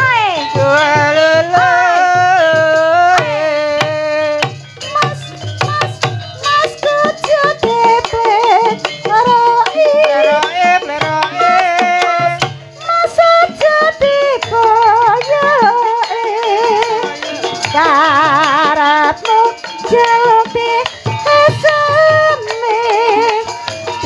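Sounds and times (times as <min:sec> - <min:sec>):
drum strokes: 0:00.0 - 0:24.0
wavering melody: 0:00.0 - 0:24.0.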